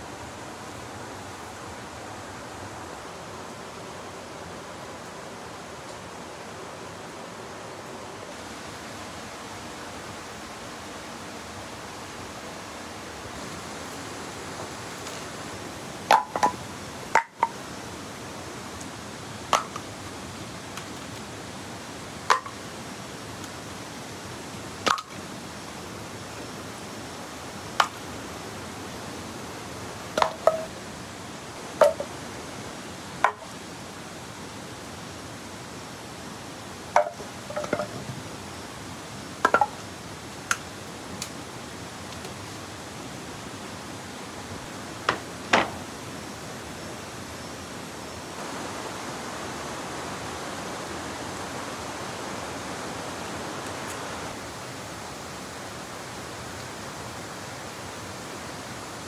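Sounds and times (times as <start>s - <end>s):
steady rural hiss: 0.0s - 59.0s.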